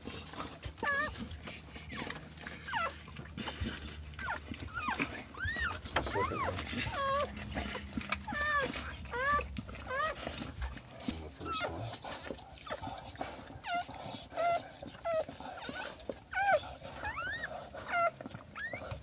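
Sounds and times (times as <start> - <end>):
puppies squealing: 0.8 - 3.2, 3.9 - 19.0.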